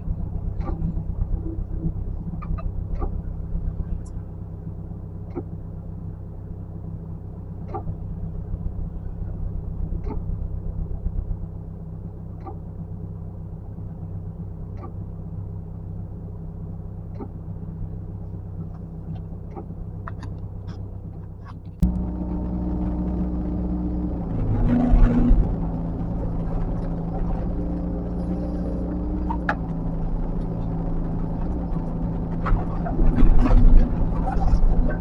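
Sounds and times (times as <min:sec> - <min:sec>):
heavy equipment engine humming: 0:00.0 - 0:35.0.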